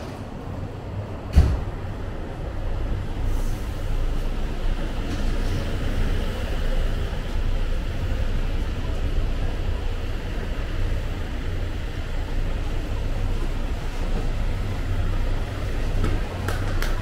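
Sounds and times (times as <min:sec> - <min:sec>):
bus engines idling: 0:00.0 - 0:17.0.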